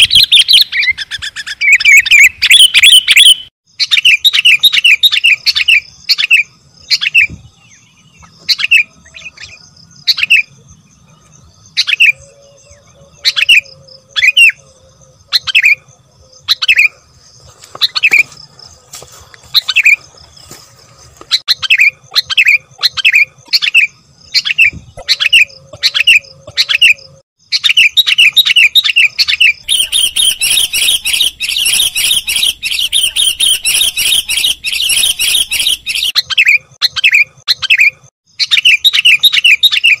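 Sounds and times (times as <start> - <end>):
bulbul calling: 0.0 - 20.6, 21.2 - 40.0.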